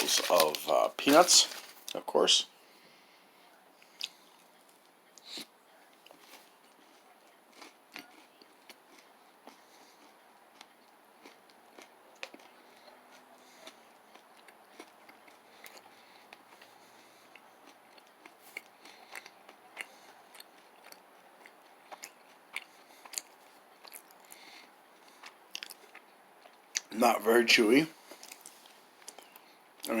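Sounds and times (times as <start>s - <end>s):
person chewing: 3.8s - 4.4s, 5.2s - 26.9s, 28.0s - 29.9s.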